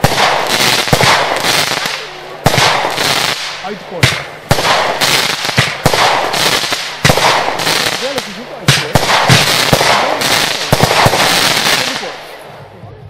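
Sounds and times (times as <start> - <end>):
fireworks bangs: 0.0 - 12.6
fireworks crackling: 0.0 - 12.7.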